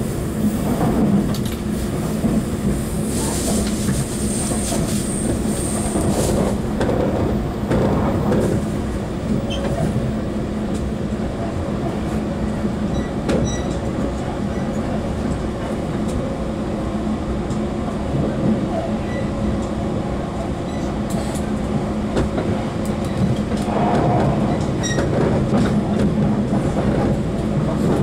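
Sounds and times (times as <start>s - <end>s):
train motors and wheels humming: 0.0s - 28.0s.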